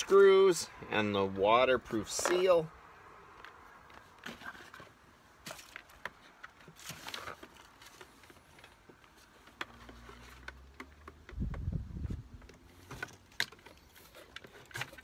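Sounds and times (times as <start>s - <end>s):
clicks taps and rustles of handling: 1.9s - 2.6s, 3.3s - 15.0s.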